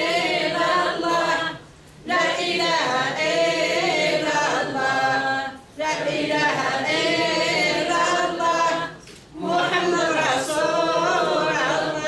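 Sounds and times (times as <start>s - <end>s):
elderly woman singing a chant: 0.0s - 12.0s.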